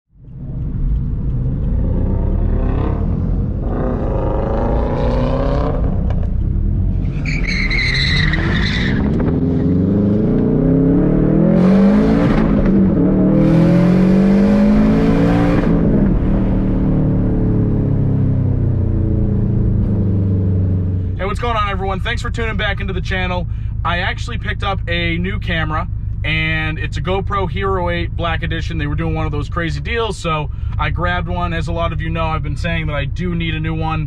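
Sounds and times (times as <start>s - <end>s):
car engine revving: 0.2s - 33.9s.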